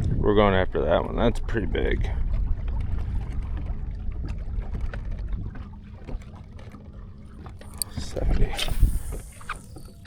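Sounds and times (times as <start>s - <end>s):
wind and water rumble: 0.0s - 10.0s.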